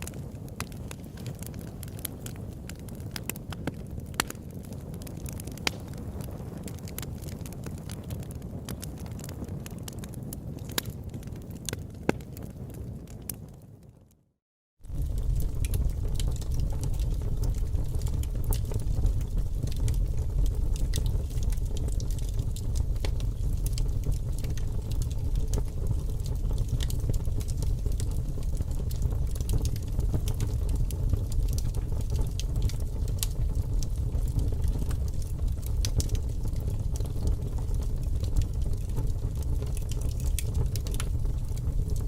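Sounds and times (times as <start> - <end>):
fire crackling and popping: 0.0 - 14.2, 14.8 - 42.0.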